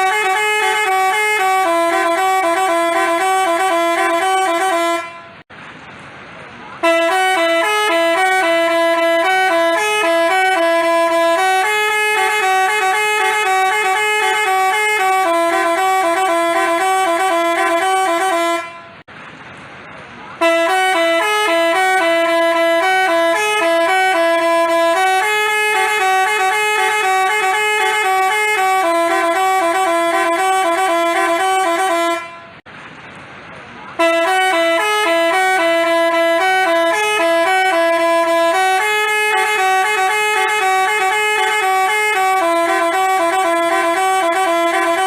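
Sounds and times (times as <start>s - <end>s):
bus horn playing a melody: 0.0s - 5.5s, 6.8s - 19.1s, 20.4s - 32.6s, 34.0s - 45.0s.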